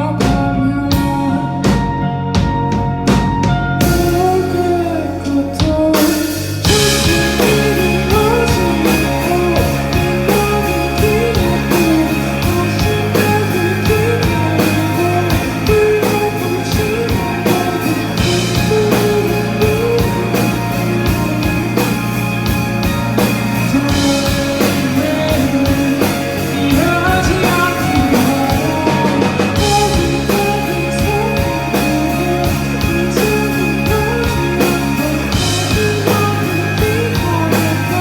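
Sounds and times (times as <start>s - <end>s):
bass: 0.0s - 38.0s
drum kit: 0.0s - 38.0s
electric guitar: 0.0s - 38.0s.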